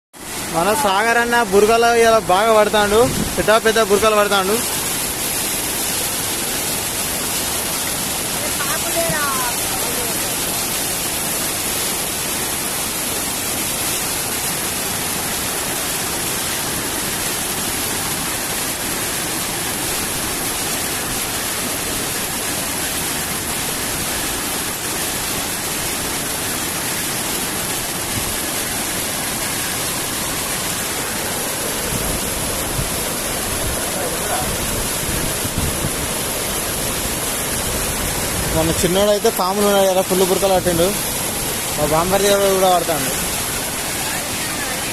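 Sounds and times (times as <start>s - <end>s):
flowing water rushing: 0.1s - 44.9s.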